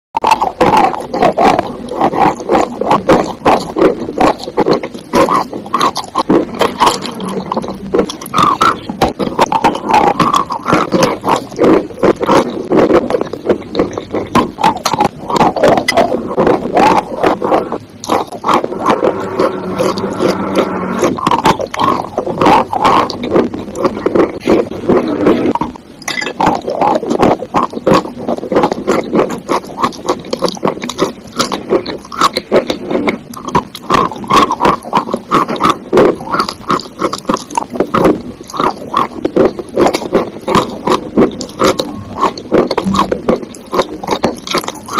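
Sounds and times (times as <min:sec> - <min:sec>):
chalk crunching while chewed: 0:00.2 - 0:44.9
wet squishy mouth sounds: 0:00.2 - 0:44.9.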